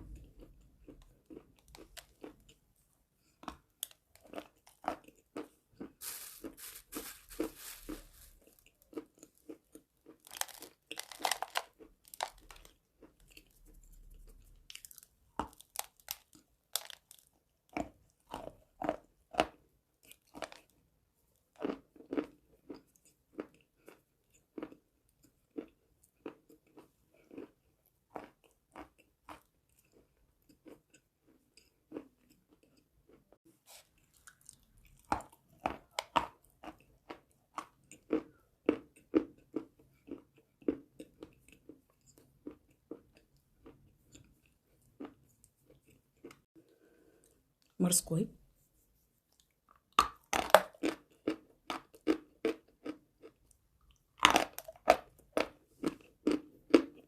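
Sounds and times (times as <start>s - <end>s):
crunching and chewing chalk: 0.0s - 47.8s, 49.2s - 57.0s.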